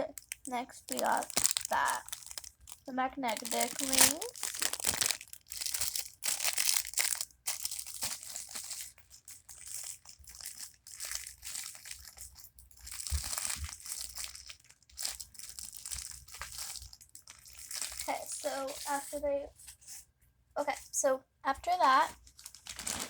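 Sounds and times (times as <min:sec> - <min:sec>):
plastic bag crinkling: 0:00.0 - 0:19.2, 0:22.0 - 0:23.0.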